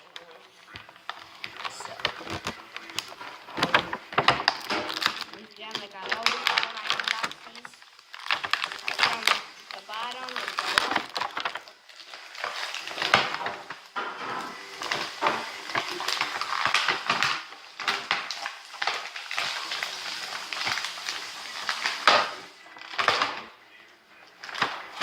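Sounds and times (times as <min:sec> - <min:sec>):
packaging being ripped open: 0:00.0 - 0:23.6, 0:24.3 - 0:25.0.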